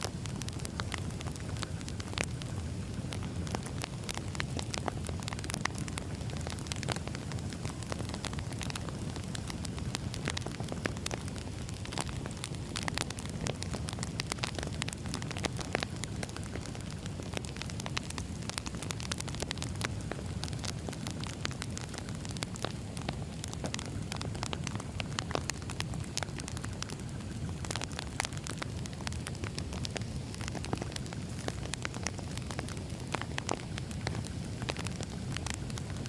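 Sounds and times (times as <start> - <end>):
firewood crackling and popping: 0.0 - 36.0
low rumble of flames: 0.0 - 36.0.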